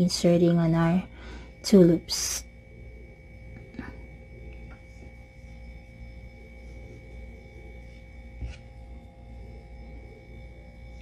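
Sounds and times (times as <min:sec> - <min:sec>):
faint electrical whine: 0:00.0 - 0:11.0.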